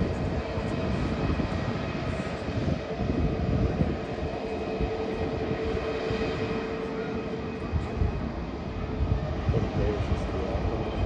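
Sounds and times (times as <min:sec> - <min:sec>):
jet engines idling: 0:00.0 - 0:11.0.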